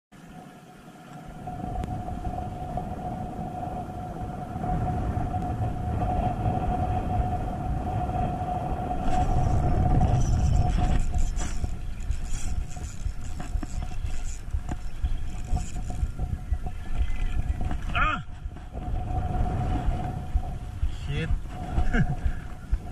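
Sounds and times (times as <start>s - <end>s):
steady hum: 0.4s - 22.9s
wind buffeting microphone: 1.2s - 22.9s.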